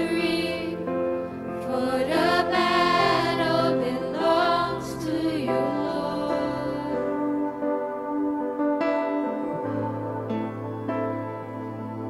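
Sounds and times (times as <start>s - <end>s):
people singing: 0.0s - 12.0s
sustained keyboard chords: 0.0s - 12.0s.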